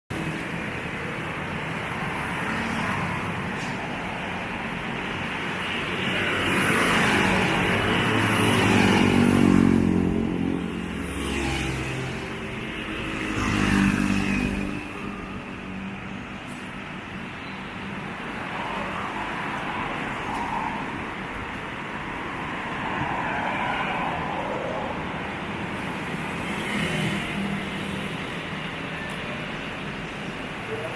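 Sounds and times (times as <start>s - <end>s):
vehicles passing by: 0.1s - 30.9s.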